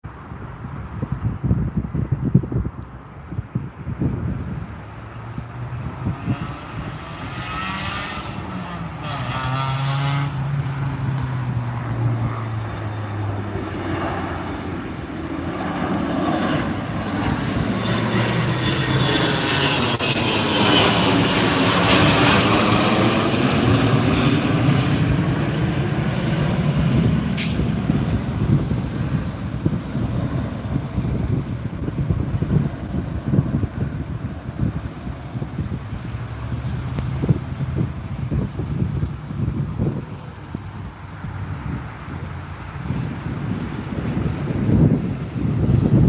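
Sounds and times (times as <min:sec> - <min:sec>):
jet aircraft taking off: 0:00.0 - 0:46.0.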